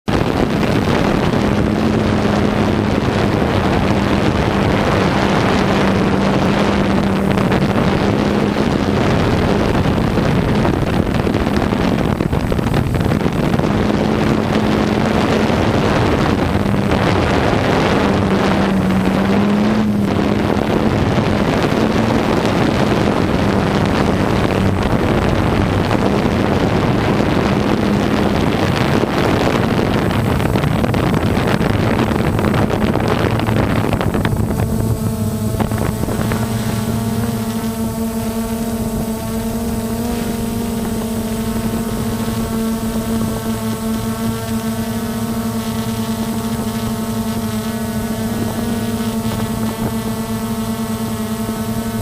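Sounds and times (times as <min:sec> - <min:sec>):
low hum: 0:00.0 - 0:52.0
loud rushing noise: 0:00.1 - 0:50.0.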